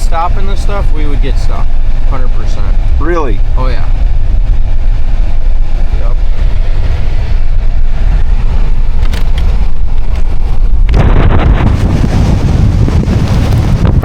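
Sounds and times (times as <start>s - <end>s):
harsh rushing noise: 0.0s - 14.0s
truck engine and tyres rumbling: 0.0s - 14.0s
wind buffeting microphone: 0.0s - 14.0s.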